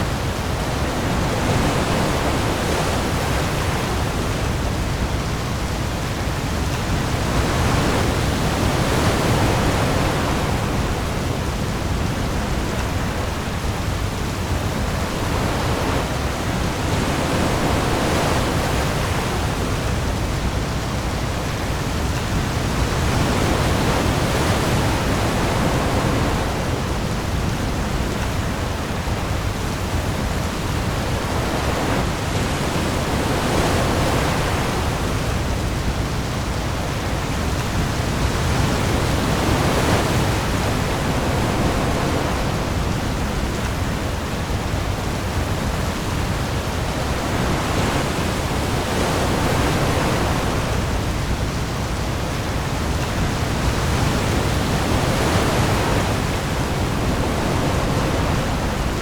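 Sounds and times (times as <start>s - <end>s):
heavy rain on the sea: 0.0s - 59.0s
waves rumbling: 0.0s - 59.0s.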